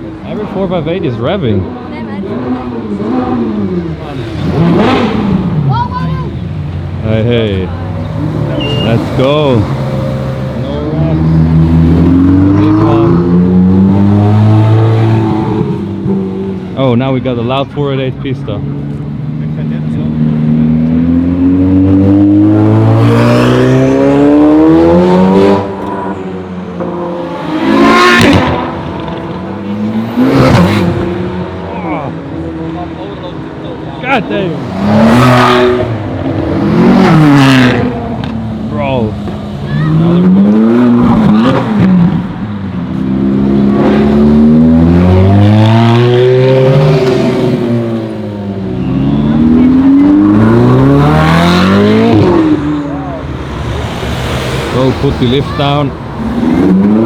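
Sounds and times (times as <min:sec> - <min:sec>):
sports car engine accelerating: 0:00.6 - 0:57.0.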